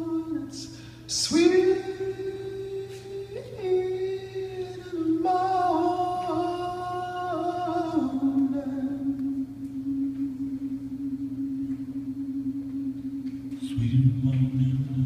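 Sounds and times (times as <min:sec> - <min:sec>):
person singing long notes: 0:00.0 - 0:15.0.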